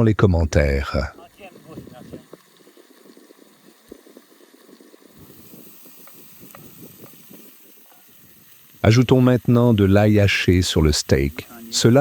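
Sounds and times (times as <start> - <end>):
fire crackling: 0.0 - 12.0
steak sizzling in a pan: 0.6 - 12.0.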